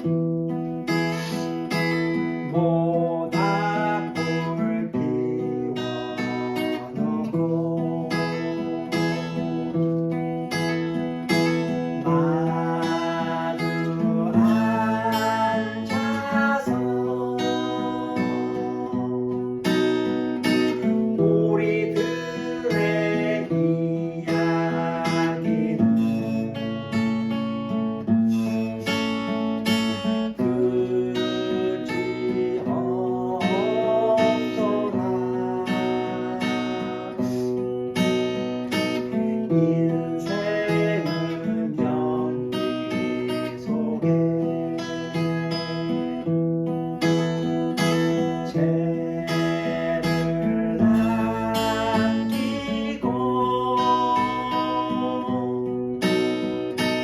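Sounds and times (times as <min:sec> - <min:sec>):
acoustic guitar instrumental: 0:00.0 - 0:57.0.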